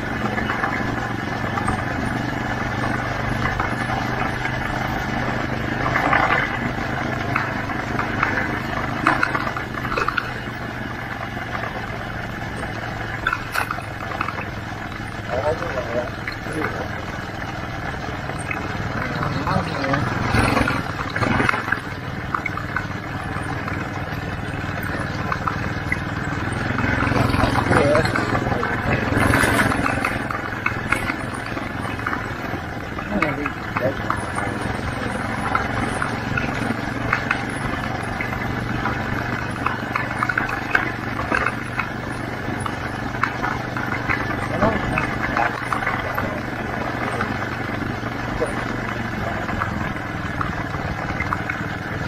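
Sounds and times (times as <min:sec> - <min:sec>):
tyres crunching over gravel: 0:00.0 - 0:52.0
vehicle engine running: 0:00.0 - 0:52.0.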